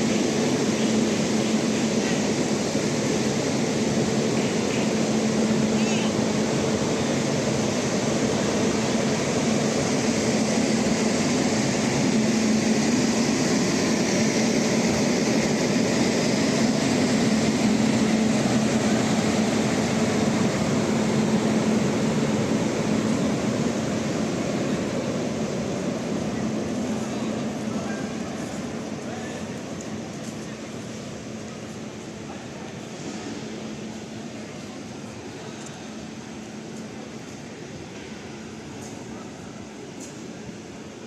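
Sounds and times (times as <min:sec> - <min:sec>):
locomotive hum: 0:00.0 - 0:41.0.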